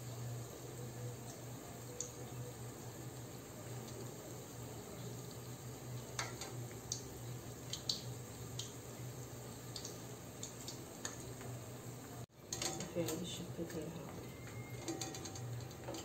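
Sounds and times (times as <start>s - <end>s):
dough sizzling in hot oil: 0.0s - 16.0s.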